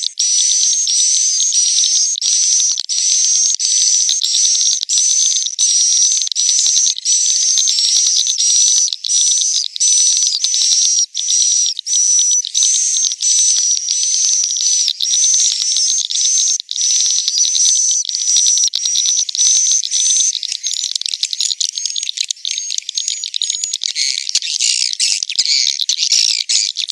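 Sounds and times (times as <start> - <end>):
swiftlets twittering: 0.0 - 26.9.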